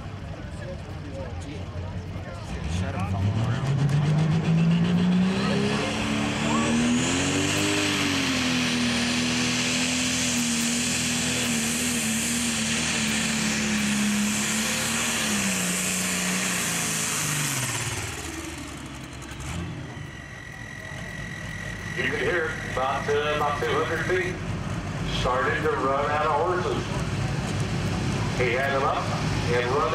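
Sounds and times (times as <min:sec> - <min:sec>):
diesel engine running hard: 0:00.0 - 0:29.9.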